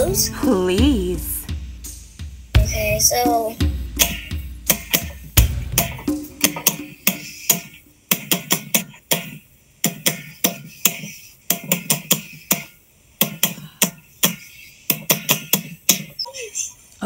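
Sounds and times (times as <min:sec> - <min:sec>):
hand percussion strikes: 0:00.0 - 0:16.2.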